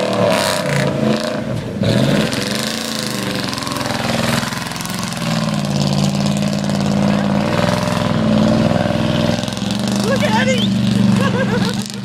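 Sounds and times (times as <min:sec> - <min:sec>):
truck engine working under load: 0:00.0 - 0:12.0.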